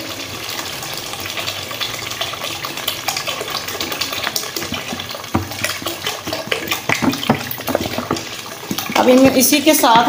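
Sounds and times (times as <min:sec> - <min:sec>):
water pouring into thick sauce: 0:00.0 - 0:10.0.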